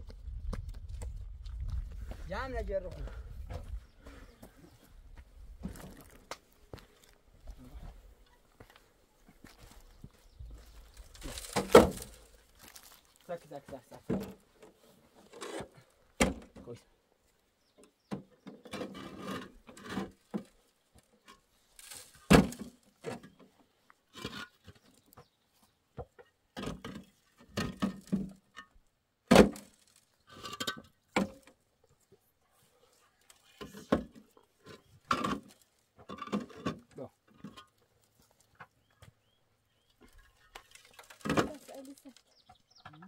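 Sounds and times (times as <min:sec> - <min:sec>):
concrete blocks clunking and scraping: 0:03.0 - 0:16.8, 0:17.8 - 0:32.3, 0:32.9 - 0:43.0.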